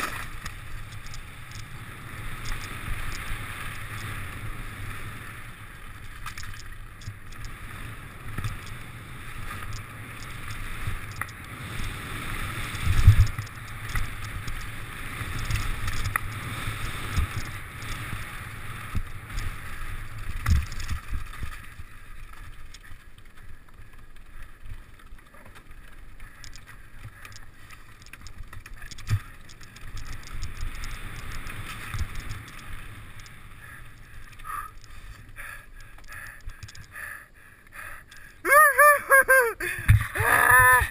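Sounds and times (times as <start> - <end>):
bike thudding over bumps: 0.0 - 37.1
bike rumble and rattle: 0.0 - 38.4.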